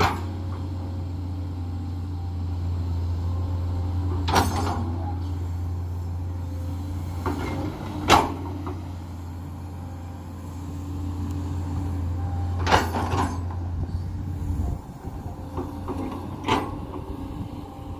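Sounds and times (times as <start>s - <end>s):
excavator diesel engine running: 0.0s - 17.9s.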